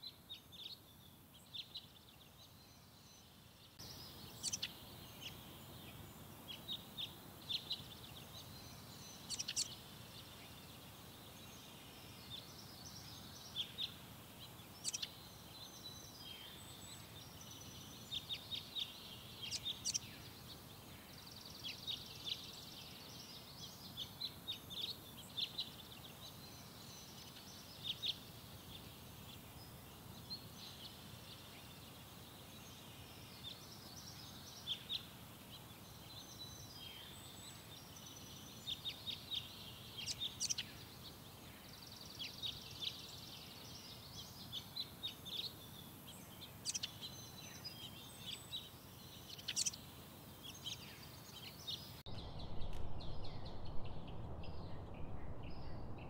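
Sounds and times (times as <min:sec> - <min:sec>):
faint steady hiss: 0:00.0 - 0:56.0
small songbirds chirping: 0:00.0 - 0:56.0.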